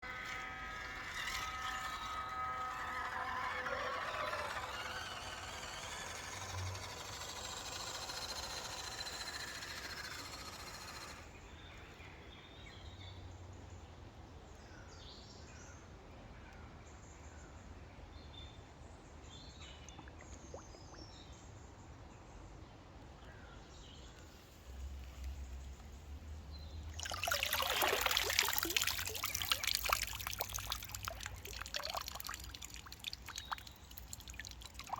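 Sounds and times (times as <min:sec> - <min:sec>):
outdoor ambience: 0:00.0 - 0:34.9.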